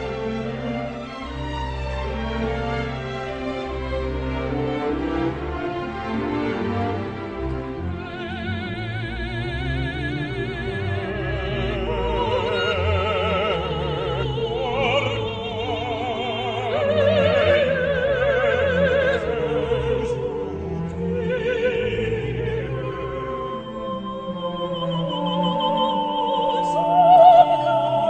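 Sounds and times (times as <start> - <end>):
operatic singing with vibrato: 0.0 - 28.0
orchestral accompaniment: 0.0 - 28.0.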